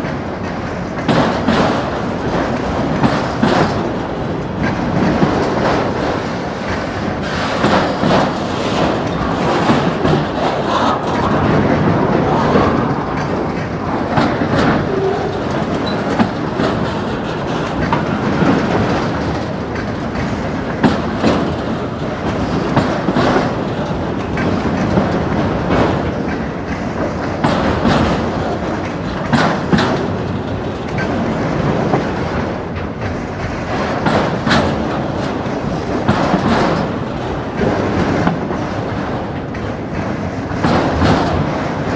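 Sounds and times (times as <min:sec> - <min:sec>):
train wheels rumbling on rails: 0:00.0 - 0:41.9
wheels and couplers clanking: 0:00.0 - 0:41.9.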